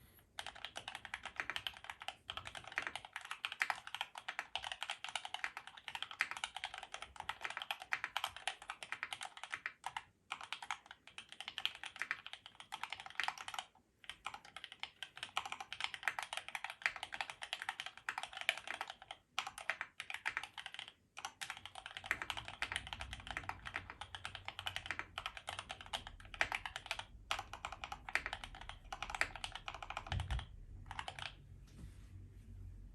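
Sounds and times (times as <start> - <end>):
mechanical keyboard typing: 0.3 - 31.4.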